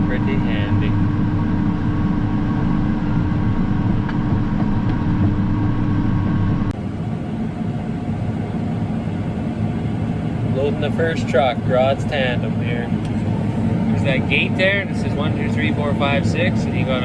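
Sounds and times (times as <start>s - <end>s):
tractor engine drone from cab: 0.0s - 17.0s.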